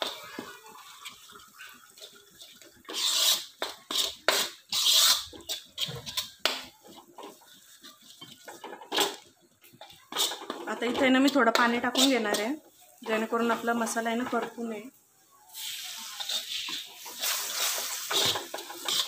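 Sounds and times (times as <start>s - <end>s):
metal spatula scraping pan: 0.0s - 14.6s, 15.6s - 19.0s.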